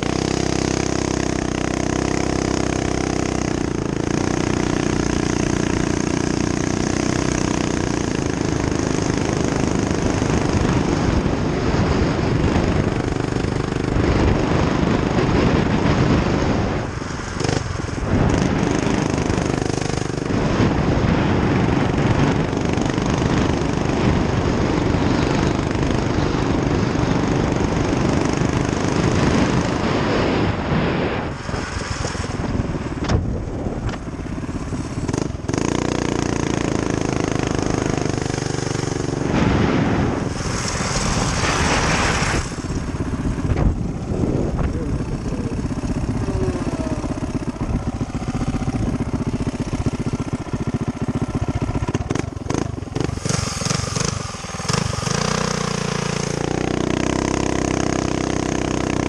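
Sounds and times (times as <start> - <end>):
small motorbike engine running: 0.0 - 59.0
wind noise: 0.0 - 59.0.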